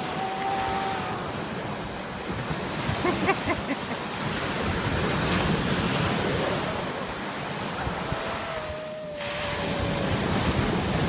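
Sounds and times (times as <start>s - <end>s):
sea waves washing in: 0.0s - 11.0s
wind buffeting microphone: 0.0s - 11.0s.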